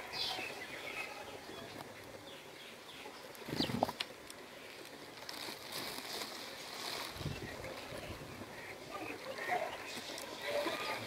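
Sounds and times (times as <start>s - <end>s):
small birds chirping: 0.0s - 5.1s, 7.1s - 11.0s.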